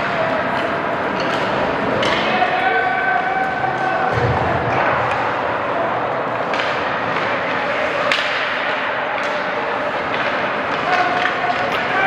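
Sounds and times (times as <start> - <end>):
spectator chatter: 0.0 - 12.0.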